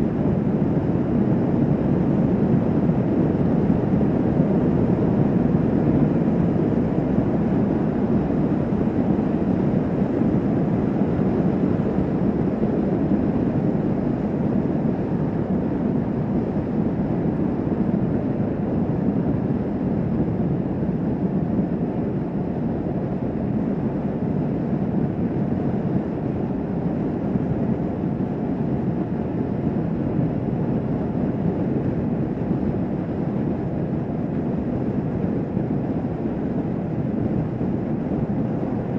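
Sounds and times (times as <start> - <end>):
wind and road rush: 0.0 - 38.9.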